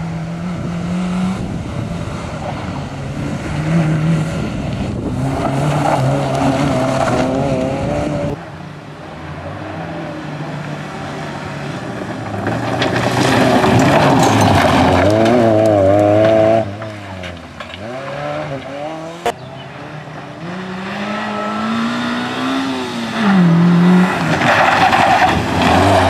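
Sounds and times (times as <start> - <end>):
rally car engine revving: 0.0 - 26.0
gravel crackling off tyres: 1.6 - 21.1, 23.1 - 26.0.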